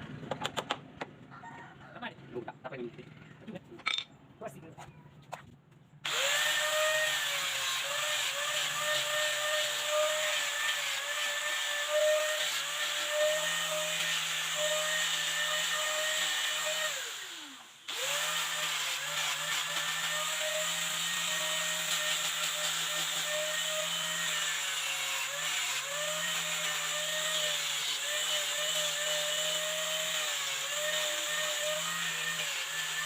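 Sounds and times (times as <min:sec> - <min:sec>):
electric power tool motor: 0:06.0 - 0:33.0.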